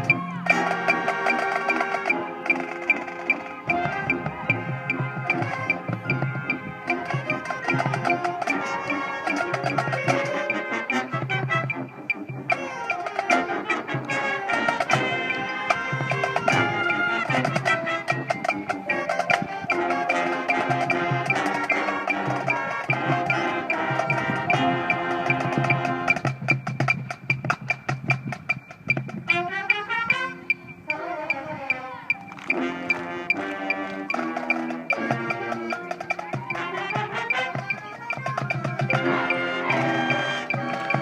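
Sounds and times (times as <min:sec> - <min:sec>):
brass chords: 0:00.0 - 0:26.9, 0:29.0 - 0:41.0
mallet percussion runs: 0:00.0 - 0:41.0
marching band playing: 0:00.0 - 0:41.0.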